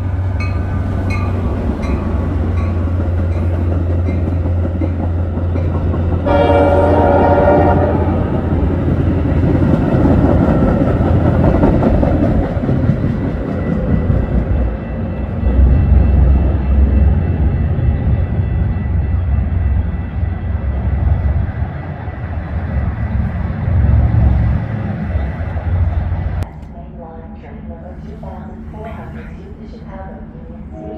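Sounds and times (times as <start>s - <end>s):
train rolling past: 0.0s - 30.9s.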